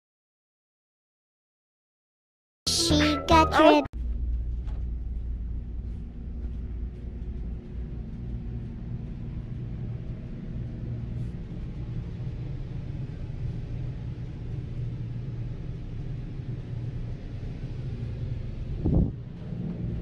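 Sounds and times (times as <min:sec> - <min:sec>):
steady low rumble: 0:04.0 - 0:20.0.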